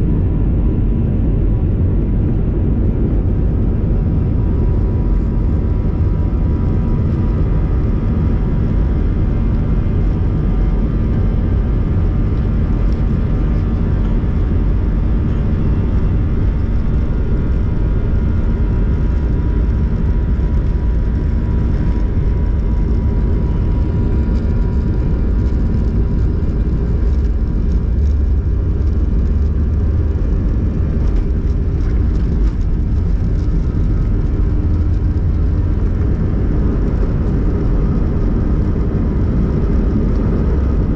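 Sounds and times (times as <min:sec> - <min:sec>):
faint steady whine: 0:00.0 - 0:40.9
jet engines and airflow rumble: 0:00.0 - 0:40.9.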